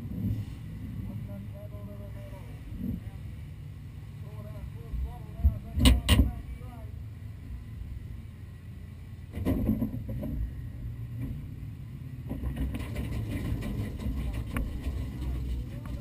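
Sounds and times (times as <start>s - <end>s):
engine idling with low rumble: 0.0s - 16.0s.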